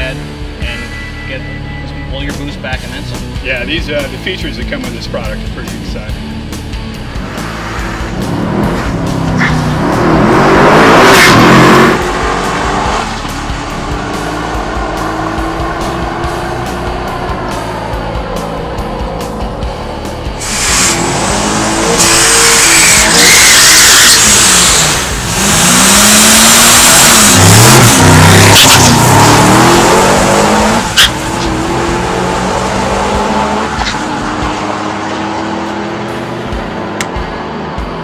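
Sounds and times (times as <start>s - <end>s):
music: 0.0s - 38.0s
car engine revving at full throttle: 4.7s - 38.0s.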